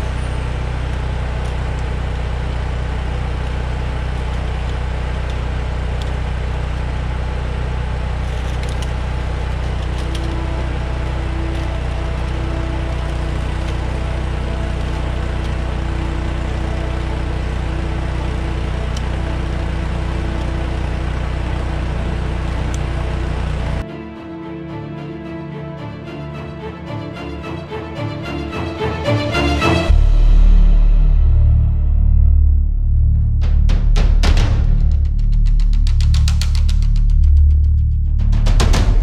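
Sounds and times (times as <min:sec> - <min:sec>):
engine idling: 0:00.0 - 0:31.8, 0:32.6 - 0:39.0.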